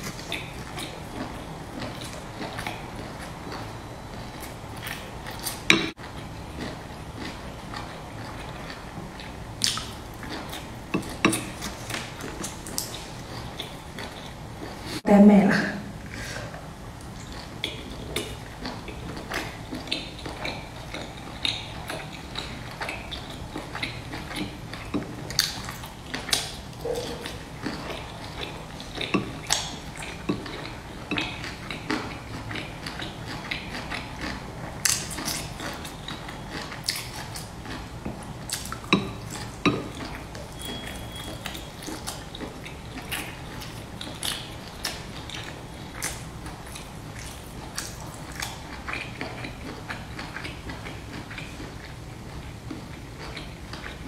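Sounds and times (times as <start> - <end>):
crunchy dumplings being chewed: 0.0 - 15.0, 16.9 - 54.0.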